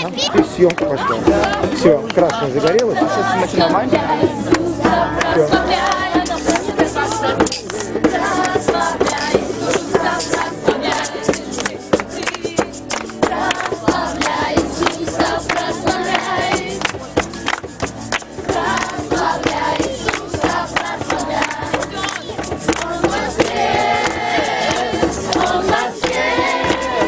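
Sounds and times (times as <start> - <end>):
sharp rhythmic beats: 0.0 - 27.0
group singing worship song: 0.1 - 17.6, 18.2 - 27.0.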